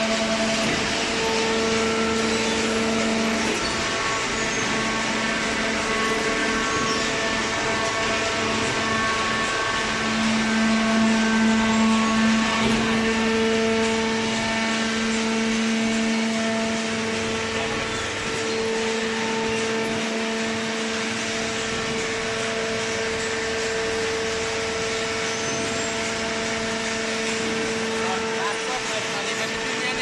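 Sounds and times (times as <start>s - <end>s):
hydraulic machine humming: 0.0s - 30.0s.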